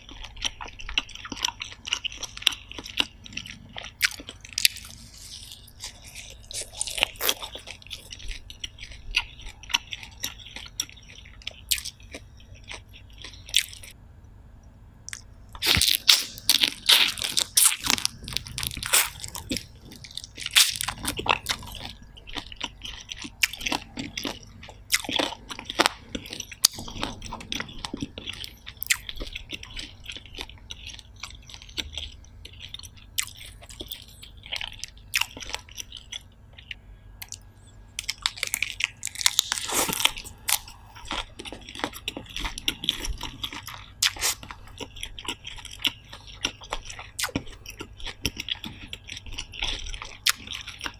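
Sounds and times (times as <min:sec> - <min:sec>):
person chewing crunchy food: 0:00.0 - 0:14.0, 0:15.1 - 0:50.9.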